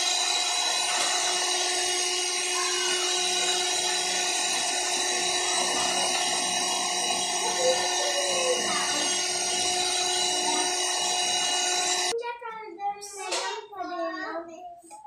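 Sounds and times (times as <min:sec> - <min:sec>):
electric hand mixer whining: 0:00.0 - 0:12.1.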